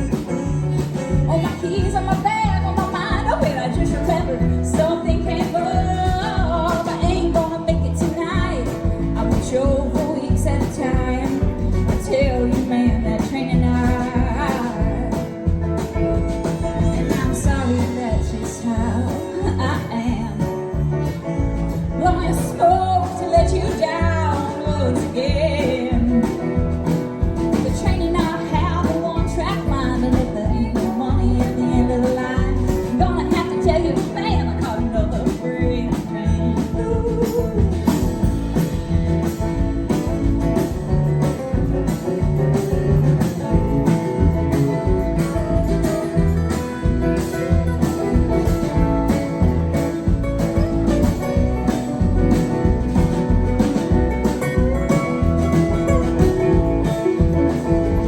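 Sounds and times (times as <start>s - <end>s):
live country band playing: 0.0s - 58.0s.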